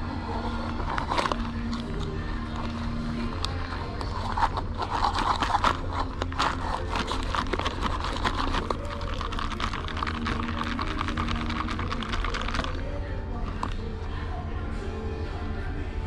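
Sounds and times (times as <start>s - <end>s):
ice rattling in plastic cup: 0.3s - 13.8s.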